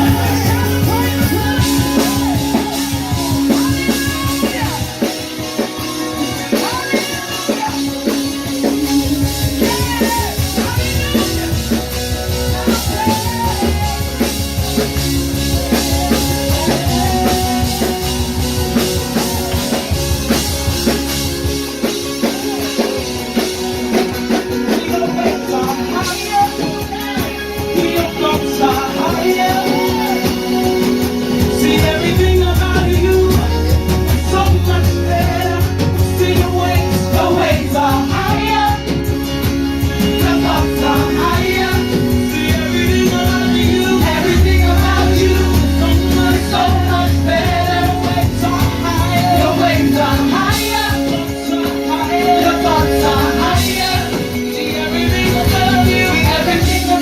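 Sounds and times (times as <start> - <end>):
drum kit: 0.0 - 57.0
guitar: 0.0 - 57.0
voices singing: 0.0 - 57.0.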